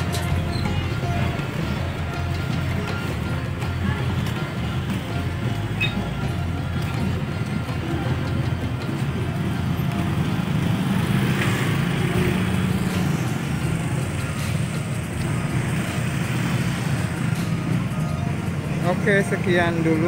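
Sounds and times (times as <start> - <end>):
motor scooter traffic: 0.0 - 20.0.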